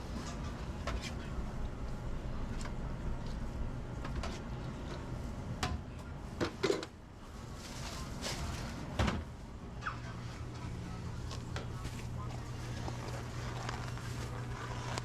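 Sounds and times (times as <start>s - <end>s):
low hum of kitchen equipment: 0.0s - 15.0s.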